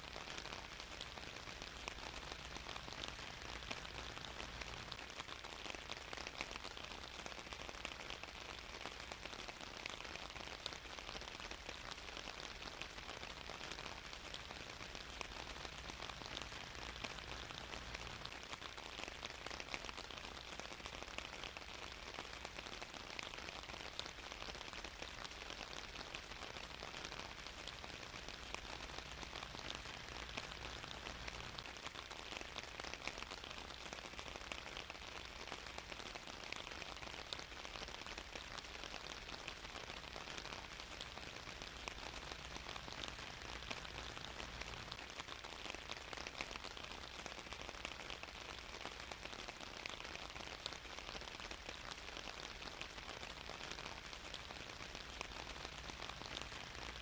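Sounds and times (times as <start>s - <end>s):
rain patter: 0.0s - 57.0s.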